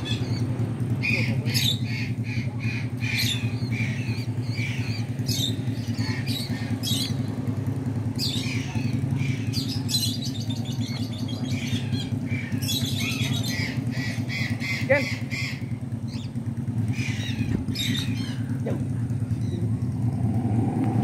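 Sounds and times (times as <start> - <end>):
parakeets squawking: 0.0 - 7.4, 8.1 - 19.7
low engine drone: 0.0 - 21.0.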